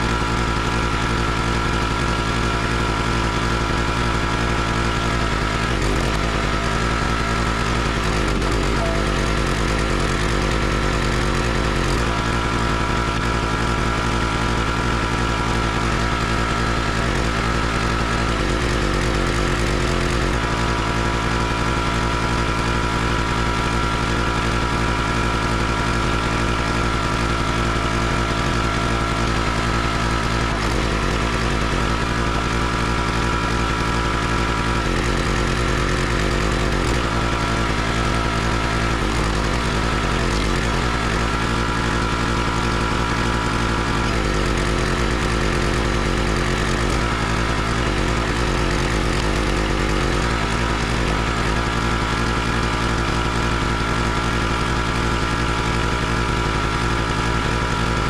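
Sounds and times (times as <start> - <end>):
small gasoline engine running: 0.0 - 58.0.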